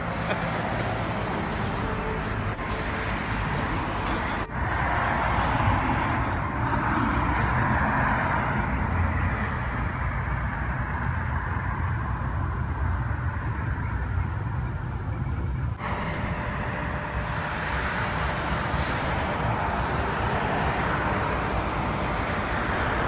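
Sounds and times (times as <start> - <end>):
car passing: 0.0 - 23.0
low rumble of street noise: 0.0 - 23.0.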